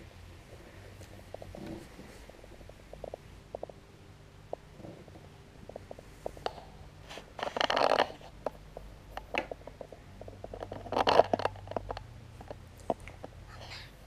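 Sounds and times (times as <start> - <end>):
rustling and scratching: 0.0 - 3.8, 4.5 - 14.0.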